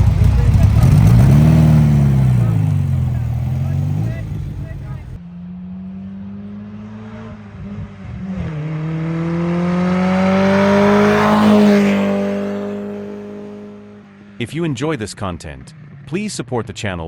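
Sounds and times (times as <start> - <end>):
car engine revving past: 0.0 - 14.4.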